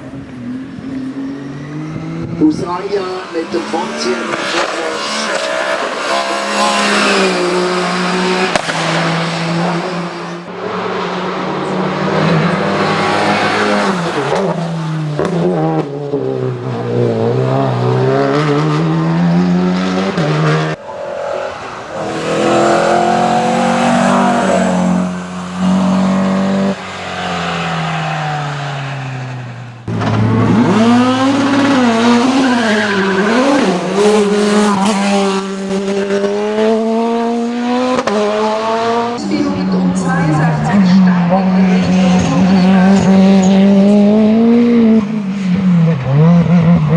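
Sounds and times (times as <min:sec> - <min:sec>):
race car engines at full throttle: 0:00.0 - 0:46.9.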